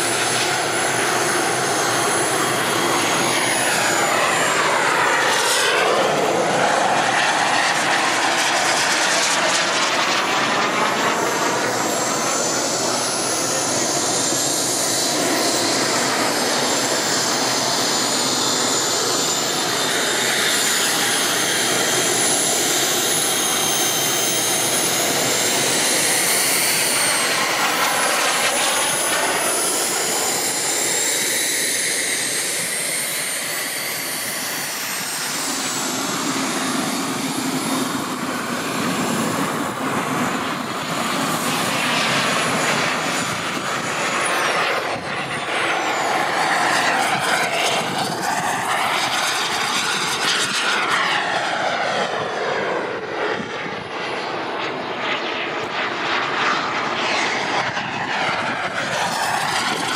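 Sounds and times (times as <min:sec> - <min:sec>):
model jet turbine whine: 0:00.0 - 0:59.9.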